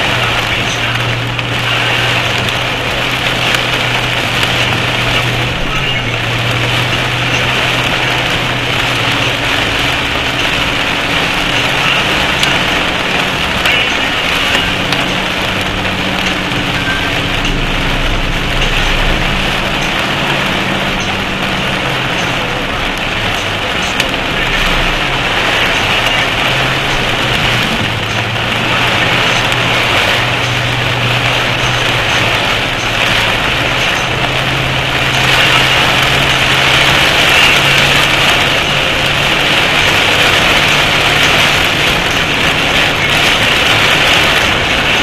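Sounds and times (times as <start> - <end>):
heavy rain falling: 0.0 - 45.0
vehicle engine humming: 0.0 - 45.0.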